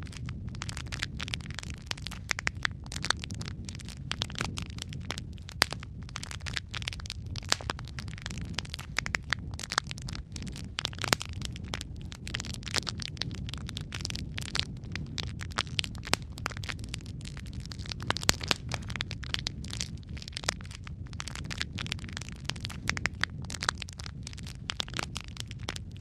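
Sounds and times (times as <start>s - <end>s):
logs crackling and popping: 0.0s - 26.0s
low rumble of flame: 0.0s - 26.0s.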